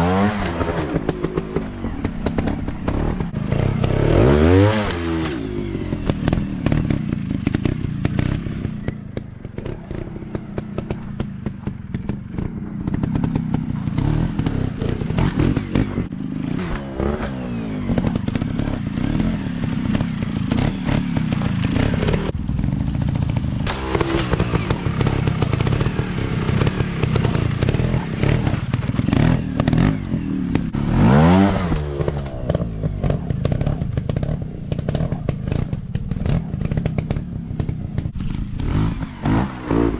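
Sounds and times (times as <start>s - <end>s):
motorcycle engines revving: 0.0s - 39.9s
clattering knocks from bikes: 0.4s - 4.2s, 4.8s - 30.8s, 31.7s - 39.9s.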